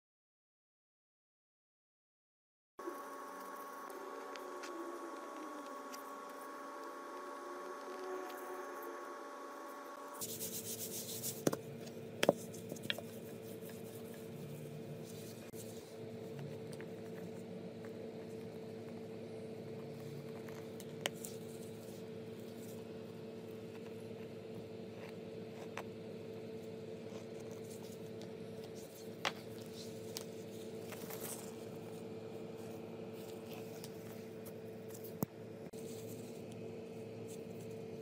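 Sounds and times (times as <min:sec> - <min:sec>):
steady hum: 0:02.8 - 0:38.0.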